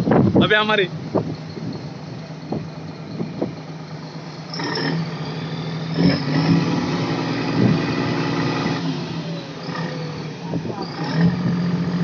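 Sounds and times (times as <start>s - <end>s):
boat engine running: 0.1s - 12.0s.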